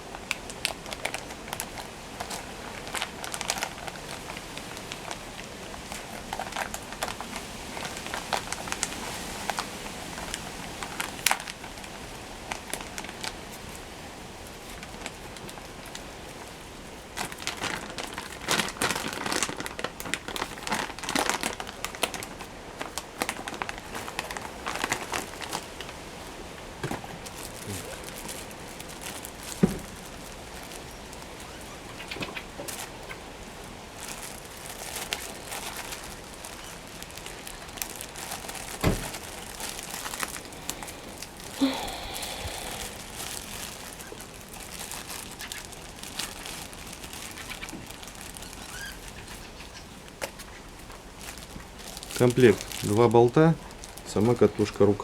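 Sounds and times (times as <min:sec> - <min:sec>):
packaging crinkling and rustling: 0:00.0 - 0:55.0.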